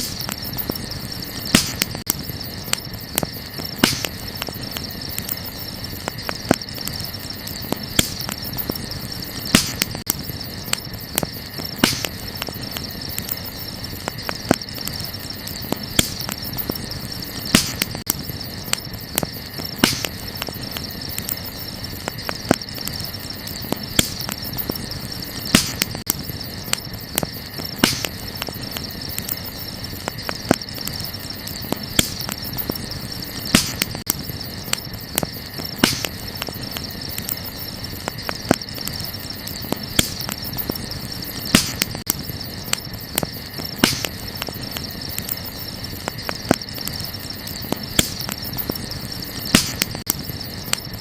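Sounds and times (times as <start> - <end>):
campfire crackling: 0.0 - 51.0
night insects chorus: 0.0 - 51.0.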